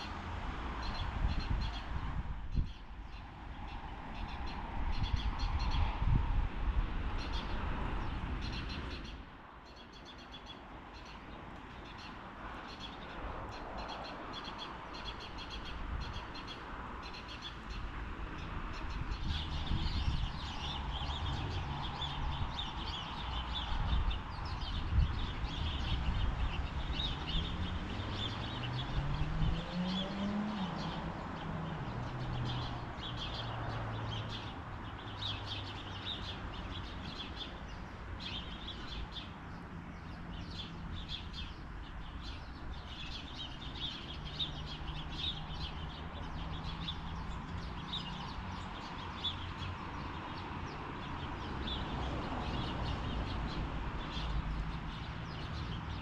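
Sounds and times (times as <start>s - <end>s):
small birds chirping: 7.2s - 56.0s.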